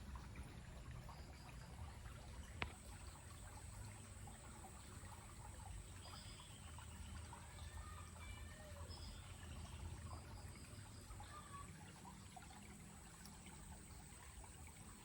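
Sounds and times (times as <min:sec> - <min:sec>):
stream water trickling: 0:00.0 - 0:15.0.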